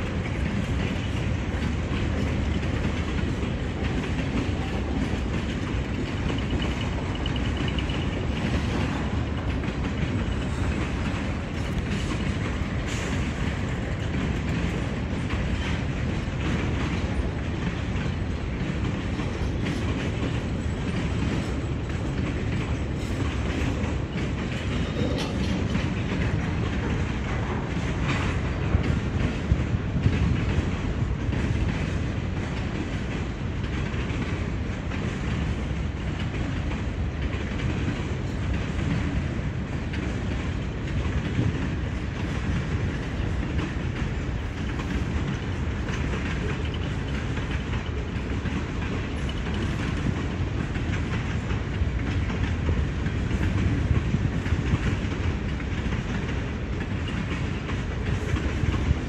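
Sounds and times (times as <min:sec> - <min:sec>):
clickety-clack over rail joints: 0:00.0 - 0:59.0
train wheels rumbling on rail: 0:00.0 - 0:59.0.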